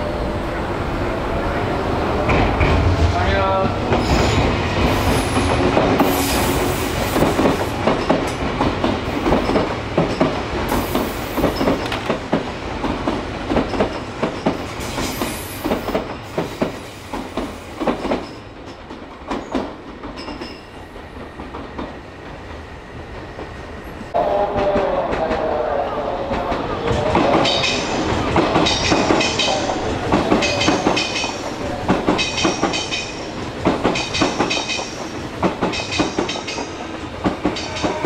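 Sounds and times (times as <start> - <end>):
train rolling noise: 0.0 - 38.0.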